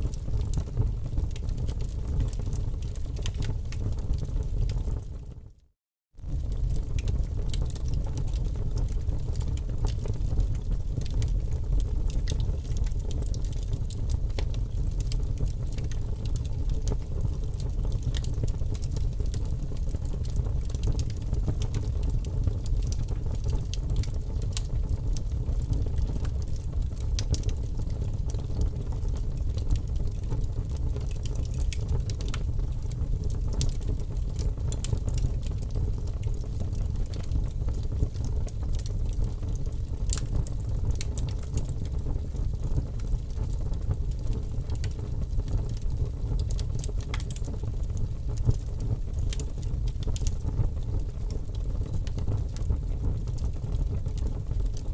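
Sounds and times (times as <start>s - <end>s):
fire crackling and popping: 0.0s - 5.3s, 6.2s - 54.9s
wood fire flames rumbling: 0.0s - 5.4s, 6.2s - 54.9s.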